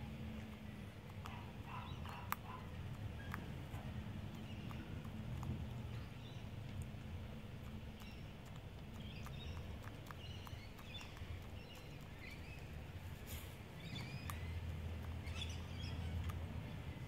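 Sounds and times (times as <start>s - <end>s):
bird pecking in mulch: 0.0s - 17.0s
low steady hum: 0.0s - 17.0s
small birds chirping: 0.0s - 17.0s.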